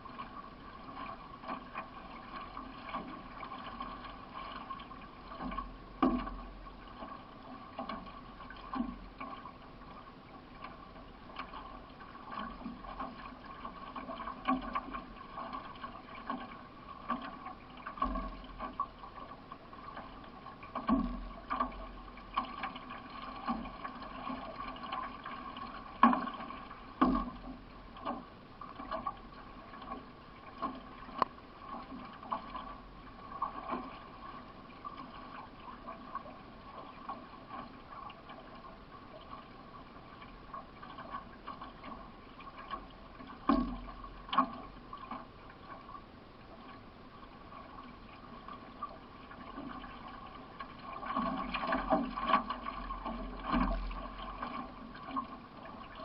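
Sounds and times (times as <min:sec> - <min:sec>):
paddle strokes splashing: 0:00.0 - 0:56.0.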